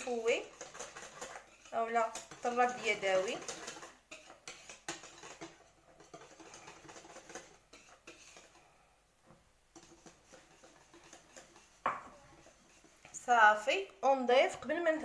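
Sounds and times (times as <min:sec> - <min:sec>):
whisk scraping in a bowl: 0:00.0 - 0:08.8, 0:09.7 - 0:13.8.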